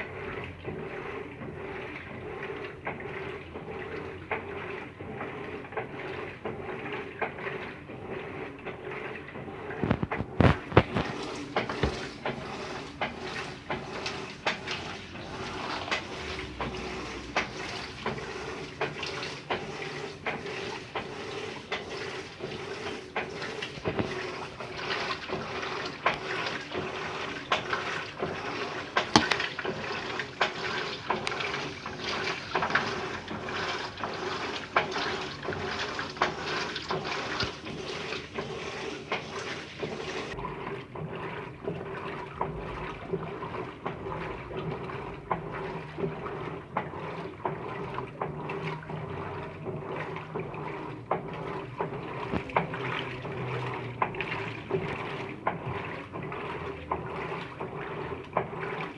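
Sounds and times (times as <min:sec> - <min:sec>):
washing machine motor hum: 0:00.0 - 0:58.9
water sloshing in washing machine: 0:00.0 - 0:58.9.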